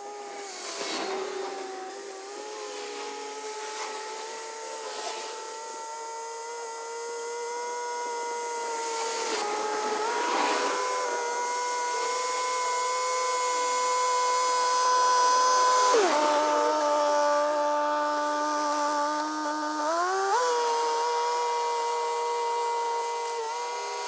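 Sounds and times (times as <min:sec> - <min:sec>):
rotary tiller mechanical whine: 0:00.0 - 0:24.0.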